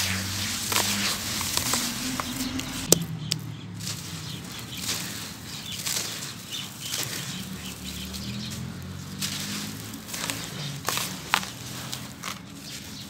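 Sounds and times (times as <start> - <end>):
grains pouring and rustling: 0.0 - 2.9, 3.8 - 13.0
hands crumbling gritty mix: 0.0 - 13.0.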